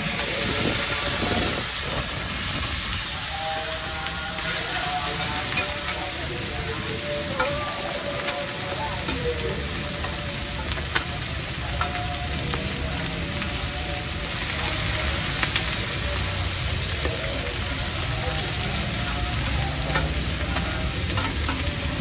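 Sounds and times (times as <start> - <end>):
eggs sizzling on griddle: 0.0 - 22.0.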